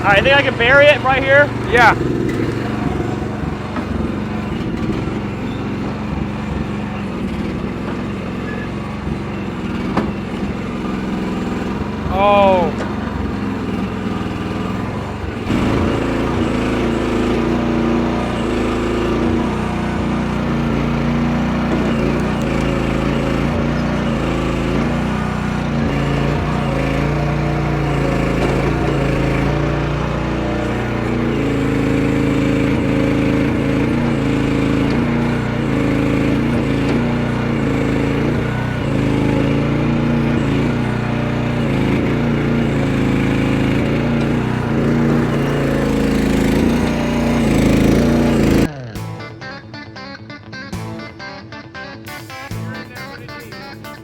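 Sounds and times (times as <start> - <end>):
excavator engine under load: 0.0 - 49.2.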